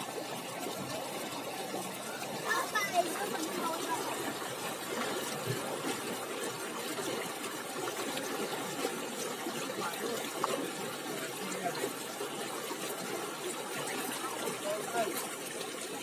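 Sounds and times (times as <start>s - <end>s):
water splashing and trickling: 0.0s - 16.0s.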